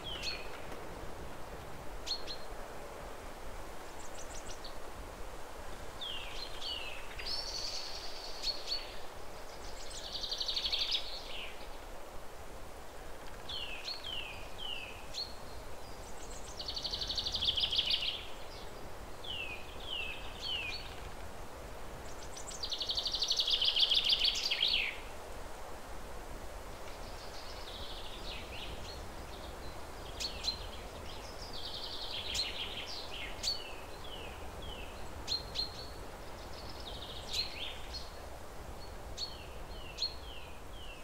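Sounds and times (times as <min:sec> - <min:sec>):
songbird singing: 0:00.0 - 0:00.8, 0:02.0 - 0:02.7, 0:03.3 - 0:11.9, 0:12.9 - 0:25.2, 0:26.7 - 0:41.0
outdoor background hiss: 0:00.0 - 0:41.0.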